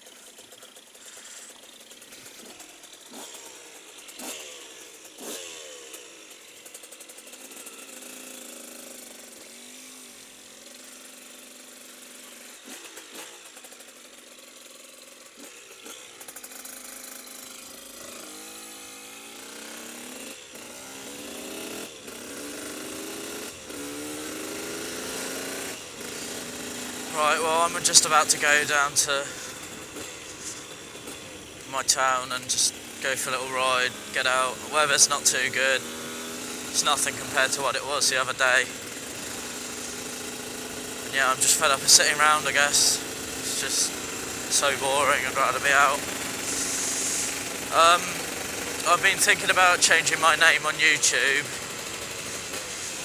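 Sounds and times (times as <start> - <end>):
motorbike engine revving: 0.0 - 53.0.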